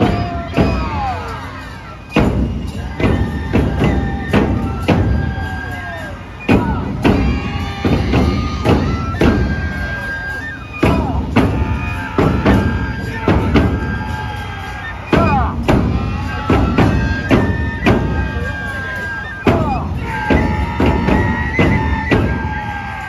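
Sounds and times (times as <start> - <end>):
bamboo flutes long notes: 0.0 - 23.0
large taiko drums beating: 0.0 - 23.0.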